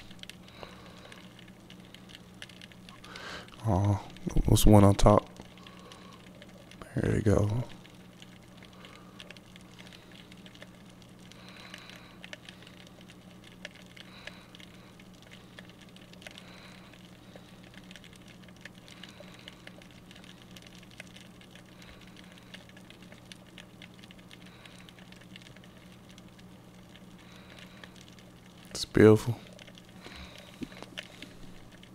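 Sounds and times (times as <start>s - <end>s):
steady low hum: 0.0s - 31.9s
underwater crackle of small clicks: 0.0s - 31.9s.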